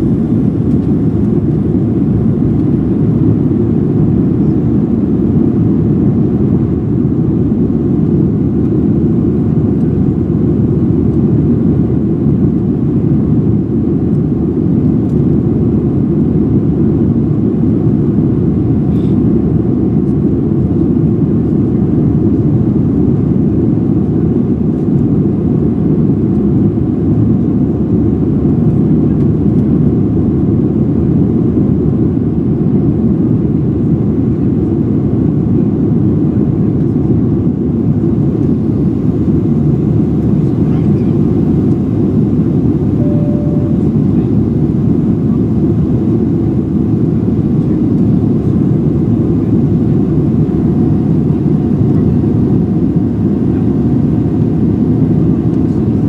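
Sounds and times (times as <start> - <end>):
jet engine roar in cabin: 0.0 - 56.0.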